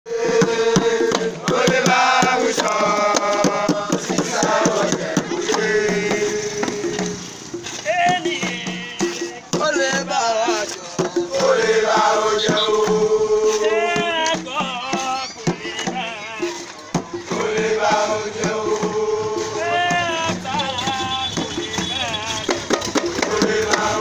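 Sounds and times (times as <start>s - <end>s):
men singing chant-like song: 0.1s - 24.0s
percussion clicking: 0.2s - 24.0s.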